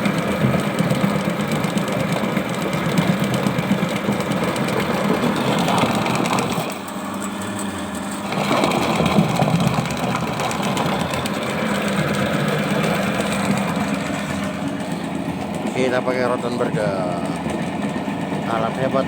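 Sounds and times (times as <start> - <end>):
drain cleaning machine humming: 0.0 - 19.0.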